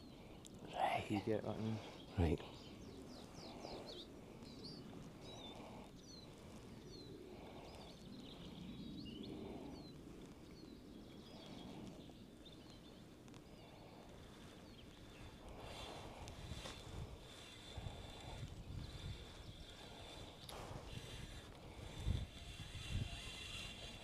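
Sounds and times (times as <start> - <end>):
birds chirping: 0.0 - 24.0
low outdoor background noise: 0.0 - 24.0.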